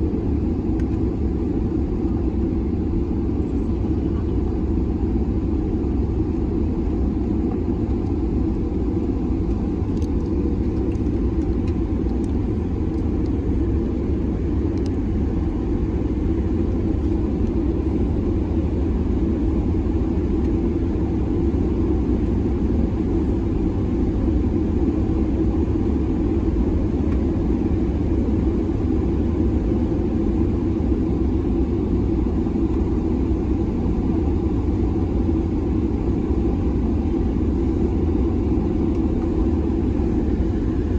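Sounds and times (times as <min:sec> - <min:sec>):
airplane cabin low rumble: 0:00.0 - 0:40.9.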